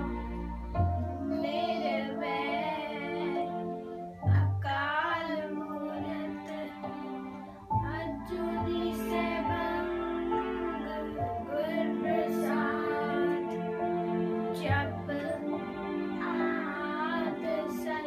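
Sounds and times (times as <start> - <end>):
child singing a hymn: 0.0 - 18.0
sustained instrumental accompaniment: 0.0 - 18.0.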